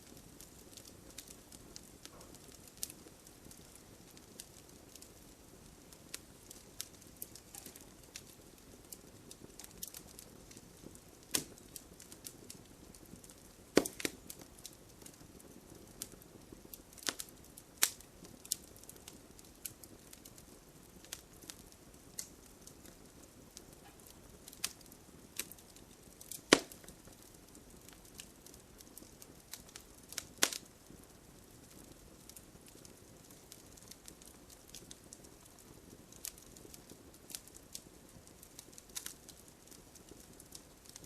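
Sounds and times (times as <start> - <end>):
low steady hiss: 0.0 - 41.0
wood fire crackling: 0.0 - 41.0.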